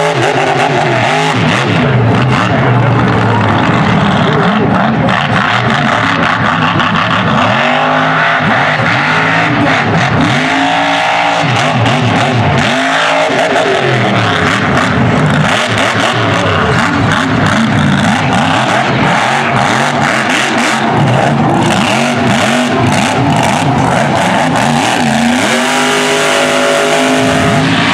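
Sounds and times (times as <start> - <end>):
truck engine revving: 0.0 - 27.9.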